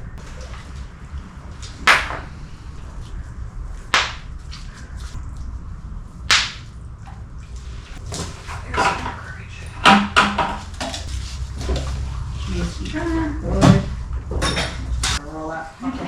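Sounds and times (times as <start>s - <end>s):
low rumble: 0.0s - 15.4s.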